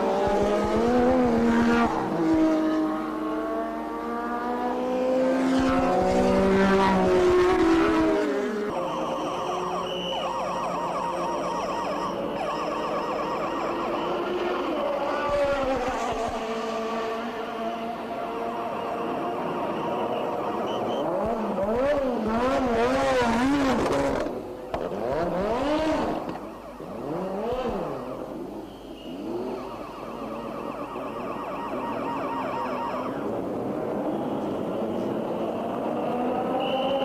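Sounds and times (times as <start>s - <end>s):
racing cars passing: 0.0s - 37.0s.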